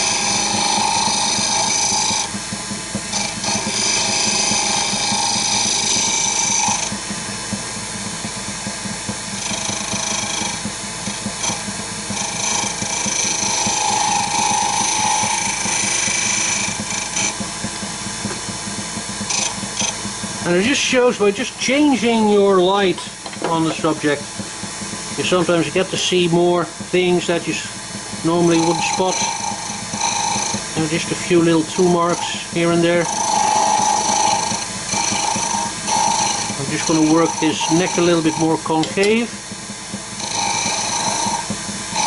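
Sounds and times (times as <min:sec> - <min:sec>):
turning tool cutting hiss: 0:00.0 - 0:42.0
wood lathe running: 0:00.0 - 0:42.0.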